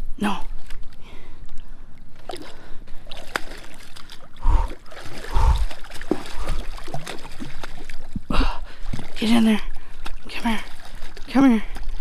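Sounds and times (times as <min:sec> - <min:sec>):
fish thrashing and splashing: 0:02.2 - 0:12.0.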